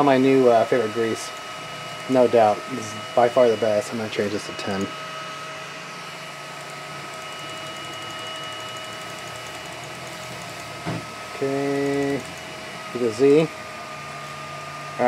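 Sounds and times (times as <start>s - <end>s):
printers humming with high whine: 0.0s - 15.0s
stepper motor whine: 0.0s - 15.0s.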